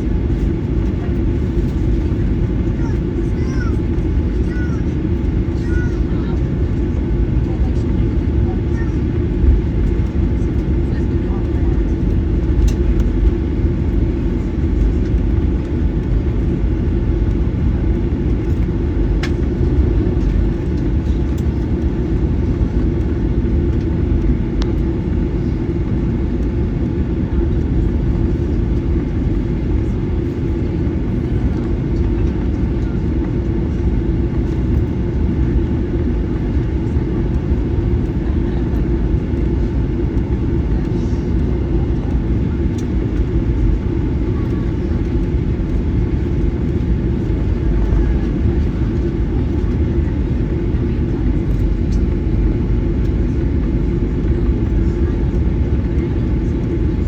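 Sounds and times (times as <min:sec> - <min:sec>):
aircraft cabin rumble: 0:00.0 - 0:57.0.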